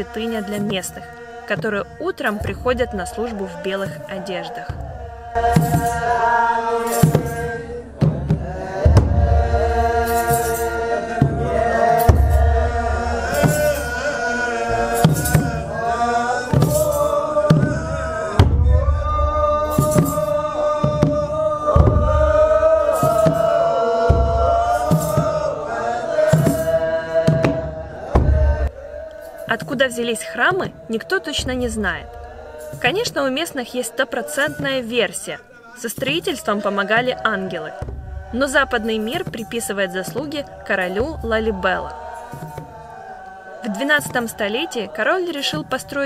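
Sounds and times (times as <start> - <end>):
drum beats: 0.0 - 46.0
men's voices chanting: 0.0 - 46.0.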